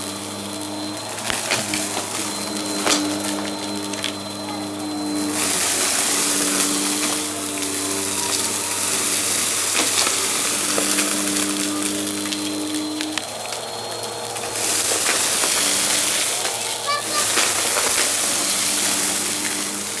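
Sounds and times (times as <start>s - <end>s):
debris ticking through vacuum head: 0.0s - 20.0s
vacuum cleaner motor hum: 0.0s - 20.0s.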